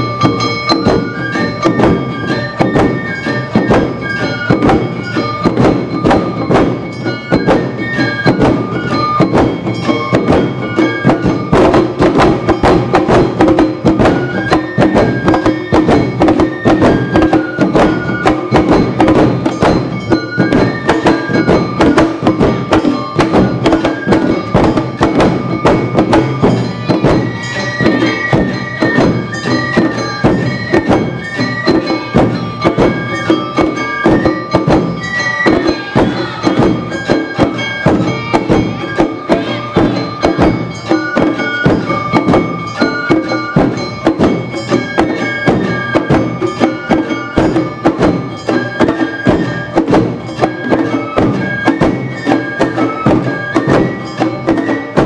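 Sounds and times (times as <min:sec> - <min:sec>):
high flute melody: 0:00.0 - 0:12.6, 0:13.8 - 0:47.4, 0:48.2 - 0:55.0
bell strikes: 0:00.0 - 0:55.0
fast drum strikes: 0:00.0 - 0:55.0.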